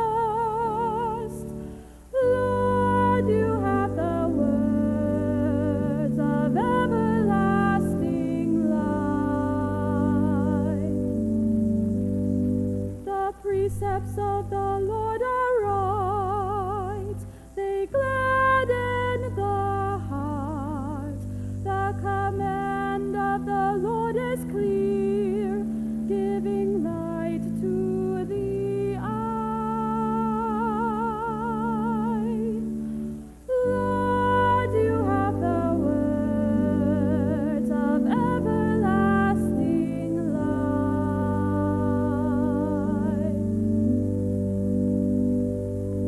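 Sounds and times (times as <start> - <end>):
woman singing with vibrato: 0.0 - 12.0, 12.9 - 44.0
sustained accompanying chords: 0.0 - 46.0.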